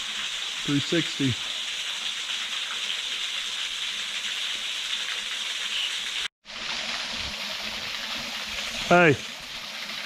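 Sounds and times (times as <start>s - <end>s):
waterfall rushing into pool: 0.0s - 10.0s.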